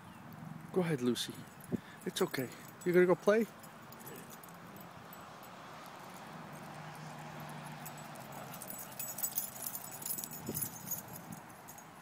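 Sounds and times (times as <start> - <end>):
low outdoor background: 0.0 - 12.0
collar tags jingling: 0.9 - 12.0.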